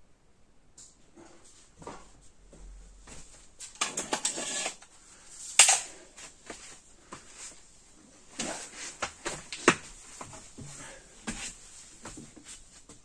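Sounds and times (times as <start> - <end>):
footsteps: 0.8 - 13.0.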